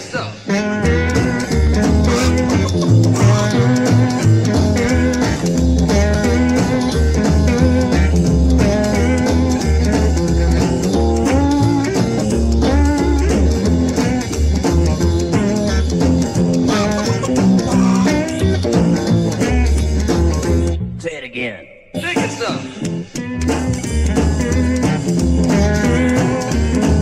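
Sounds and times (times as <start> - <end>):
drums: 0.0 - 20.8, 22.0 - 27.0
bass line: 0.6 - 21.2, 22.0 - 27.0.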